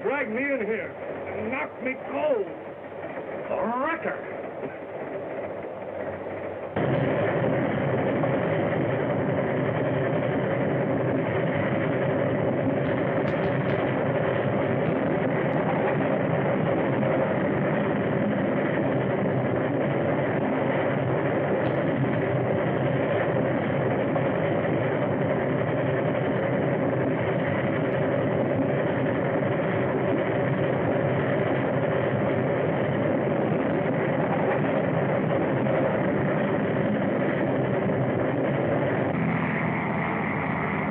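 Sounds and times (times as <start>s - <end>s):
train running on rails: 0.0s - 40.9s.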